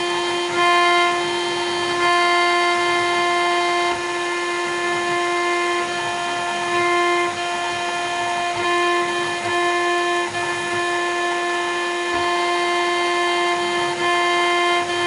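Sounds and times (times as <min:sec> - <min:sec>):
hiss of cutting bit: 0:00.0 - 0:15.0
router spindle whining: 0:00.0 - 0:15.0.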